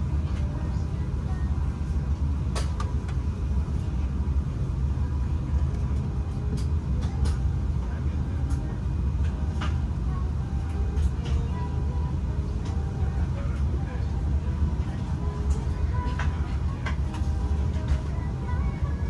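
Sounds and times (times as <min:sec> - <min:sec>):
vehicle low rumble: 0:00.0 - 0:19.0.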